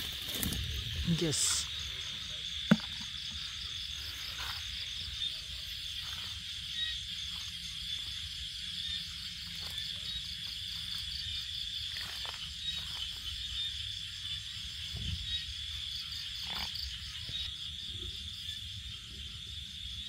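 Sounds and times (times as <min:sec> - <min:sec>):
crickets trilling: 0:00.0 - 0:20.0
pulsing insect call: 0:00.0 - 0:20.0.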